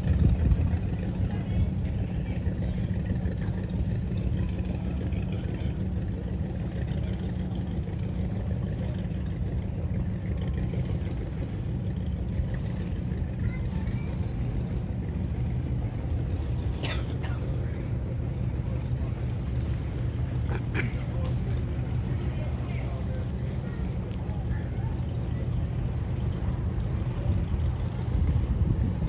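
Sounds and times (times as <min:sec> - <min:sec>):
motorboat engine droning: 0:00.0 - 0:29.0.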